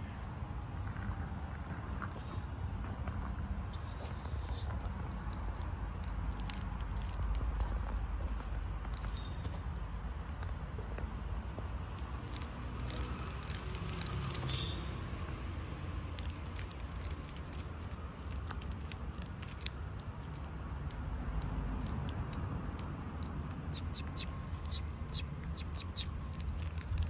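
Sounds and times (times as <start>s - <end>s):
steady low rumble: 0.0s - 10.2s, 15.1s - 27.0s
gravel stones clicking and crunching: 0.8s - 9.7s, 11.5s - 27.0s.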